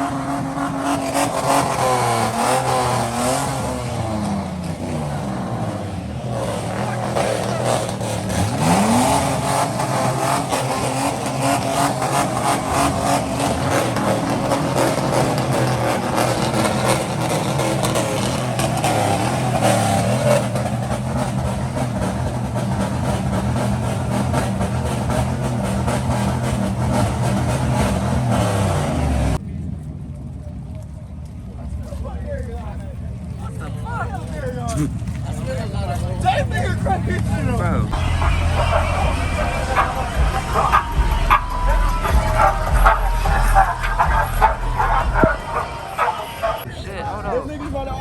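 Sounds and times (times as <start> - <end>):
car engines revving: 0.0 - 29.8, 32.6 - 48.0.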